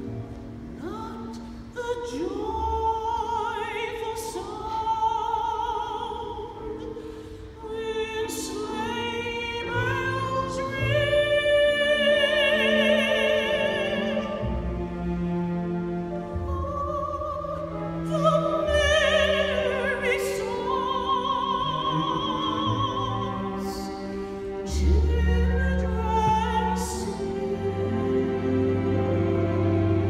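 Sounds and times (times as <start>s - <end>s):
string orchestra: 0.0s - 30.0s
operatic soprano singing: 0.6s - 30.0s.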